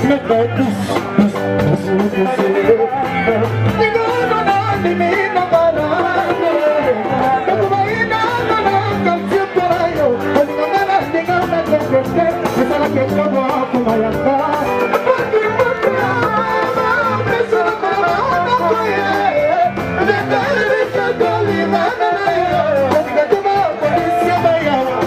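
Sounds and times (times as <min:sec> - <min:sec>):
music with singing and beat: 0:00.0 - 0:25.0.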